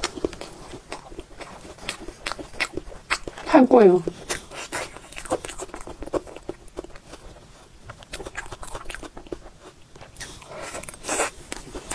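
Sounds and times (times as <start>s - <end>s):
wet chewing and mouth smacks: 0.0s - 3.5s, 4.1s - 11.9s.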